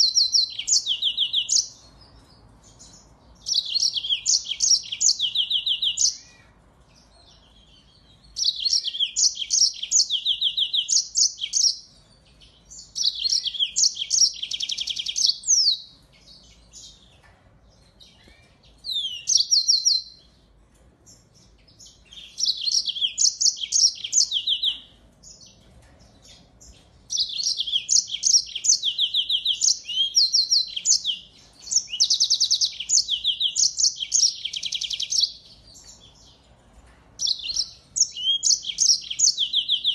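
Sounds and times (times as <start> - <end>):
finch singing trills and chirps: 0.0 - 39.9.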